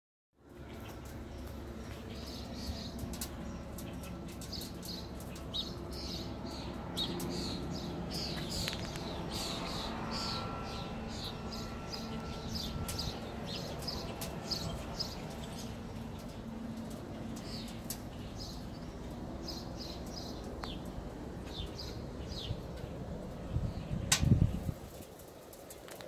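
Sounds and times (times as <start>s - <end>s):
low steady hum: 0.4s - 25.6s.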